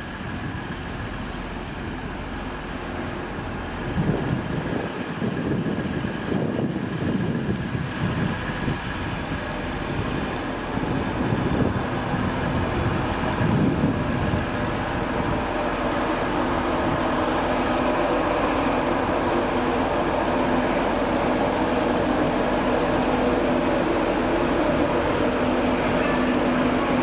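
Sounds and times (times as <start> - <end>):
electric train hum: 0.0 - 27.0
wheels rumbling on rails: 0.0 - 27.0.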